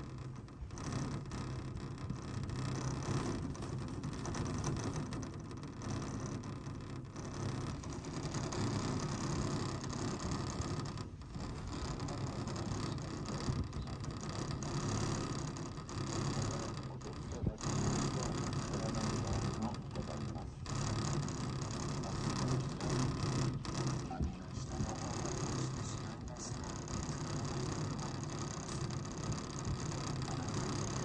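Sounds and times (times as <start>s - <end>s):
chairlift mechanical rumble: 0.0s - 31.0s
haul rope and chair rattling: 0.0s - 31.0s.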